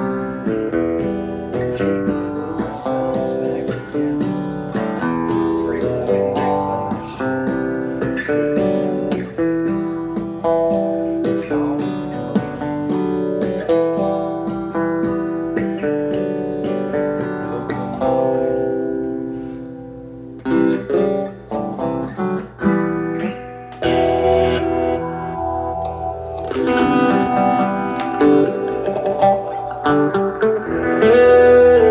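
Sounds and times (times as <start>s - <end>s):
acoustic guitar music: 0.0s - 31.9s.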